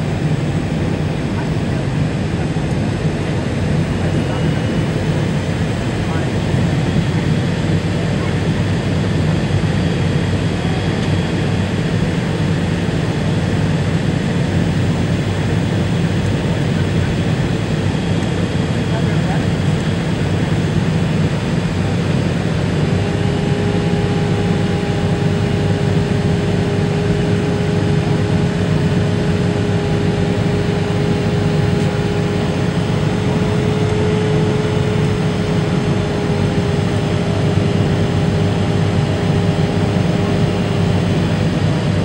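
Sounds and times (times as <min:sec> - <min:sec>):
airliner cabin roar: 0:00.0 - 0:42.0
steady whine: 0:00.0 - 0:42.0.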